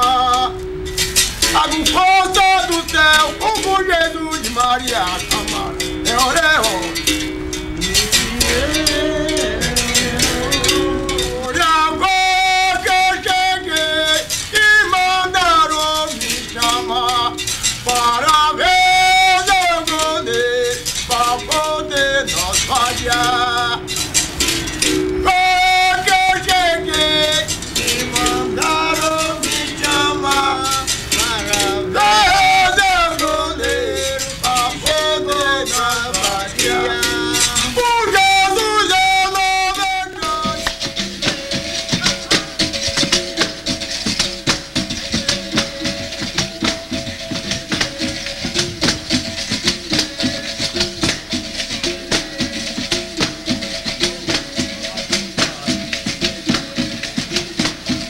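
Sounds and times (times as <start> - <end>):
man singing: 0.0 - 0.7, 1.4 - 24.0, 24.9 - 58.0
musical bows struck in rhythm: 0.0 - 58.0
shaker rattles: 0.0 - 58.0.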